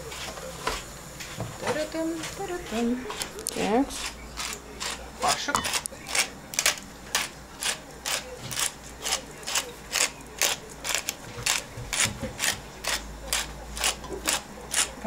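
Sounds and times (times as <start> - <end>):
minced meat being mixed in bowl: 0.1 - 15.0.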